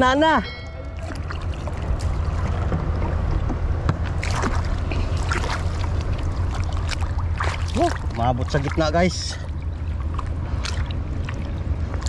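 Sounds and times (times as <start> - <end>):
steady low rumble: 0.0 - 12.0
water sloshing and splashing: 0.7 - 12.0.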